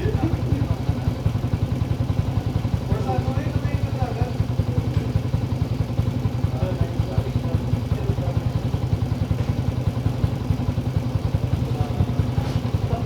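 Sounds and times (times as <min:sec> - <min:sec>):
scooter engine idling: 0:00.0 - 0:13.0.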